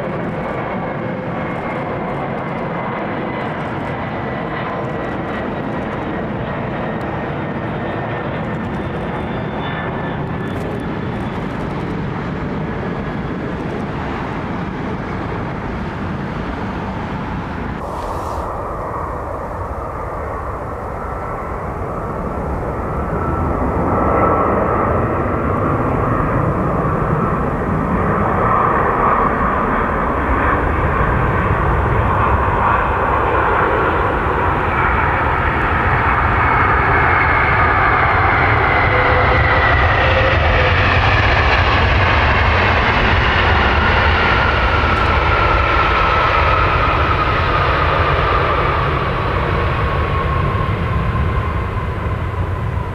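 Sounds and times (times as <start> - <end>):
jet airliner engines whining: 0.0 - 52.9.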